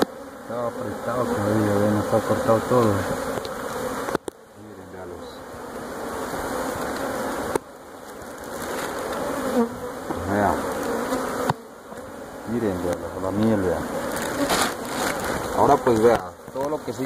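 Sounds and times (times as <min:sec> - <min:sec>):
bees buzzing in a swarm: 0:00.0 - 0:17.0.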